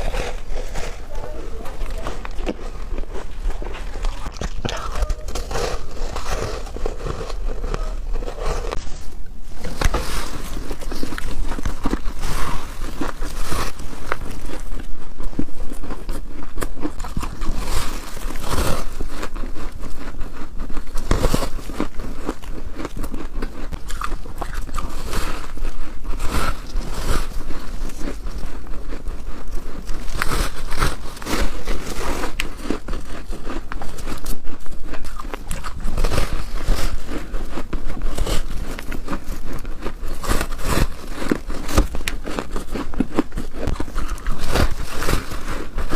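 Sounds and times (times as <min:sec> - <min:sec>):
chewing crunches: 0:00.0 - 0:45.9
crunching bites into frozen ice: 0:00.0 - 0:45.9.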